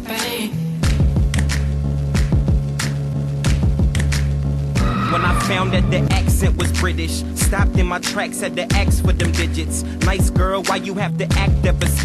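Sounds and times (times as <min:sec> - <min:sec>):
hip hop backing track: 0:00.0 - 0:12.0.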